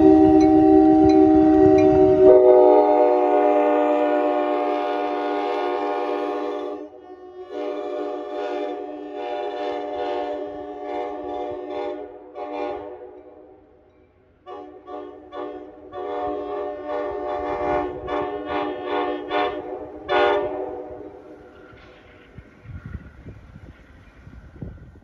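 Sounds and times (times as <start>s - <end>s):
train air horn chord: 0.0s - 13.7s, 14.4s - 21.3s
rumble of passing train cars: 0.0s - 25.0s.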